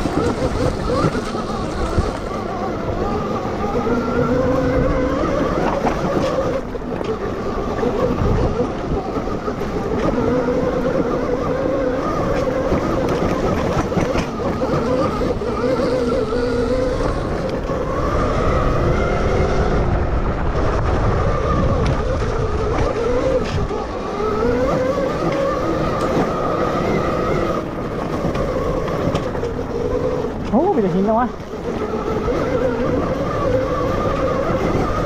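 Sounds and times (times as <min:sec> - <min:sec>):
electric motor whining: 0:00.0 - 0:35.0
low rumbling noise: 0:00.0 - 0:35.0.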